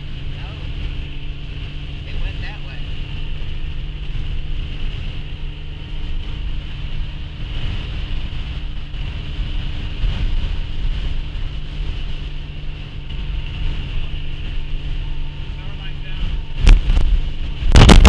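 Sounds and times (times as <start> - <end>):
car engine and road noise: 0.0 - 18.0
wind noise: 0.0 - 18.0.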